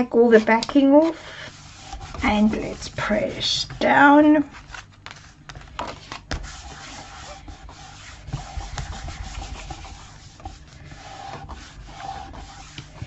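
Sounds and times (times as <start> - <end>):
hands rubbing paper: 0.2 - 13.0.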